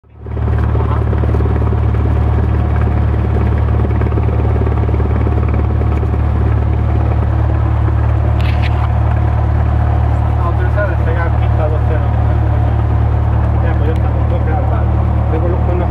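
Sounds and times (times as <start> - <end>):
light aircraft engine droning: 0.0 - 15.9.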